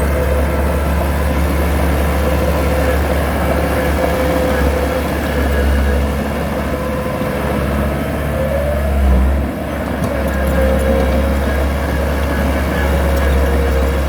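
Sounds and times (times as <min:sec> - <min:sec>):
diesel machinery engine rumble: 0:00.0 - 0:14.0.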